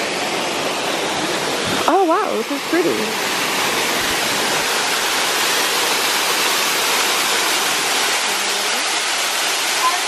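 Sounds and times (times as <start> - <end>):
waterfall pouring into pool: 0.0 - 10.0.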